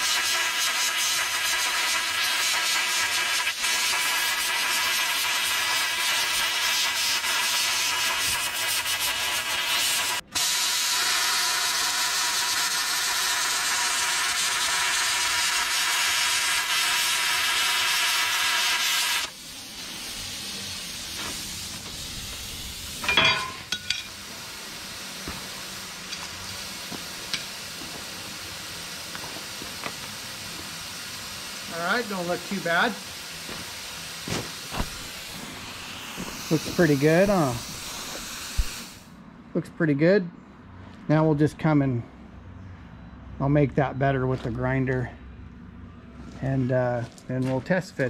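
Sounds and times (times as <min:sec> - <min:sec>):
plasma cutter hissing: 0:00.0 - 0:39.1.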